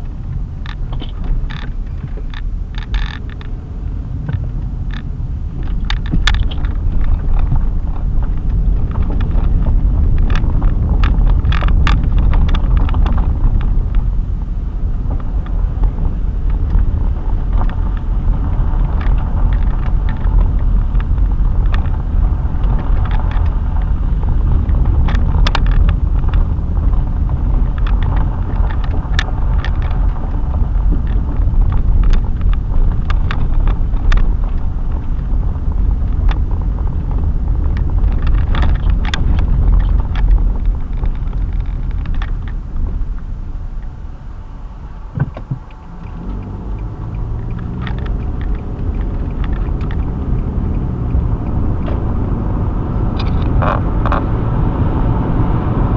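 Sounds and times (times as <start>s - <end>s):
small clicks and rattles: 0.0s - 44.0s, 45.1s - 55.9s
car road and engine rumble: 0.0s - 55.9s.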